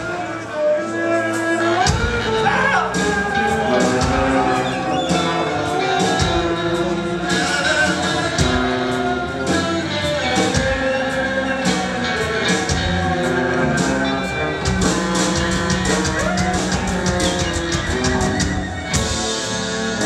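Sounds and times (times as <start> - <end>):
live rock band playing: 0.0 - 20.0
woodwind holding long notes: 0.0 - 20.0.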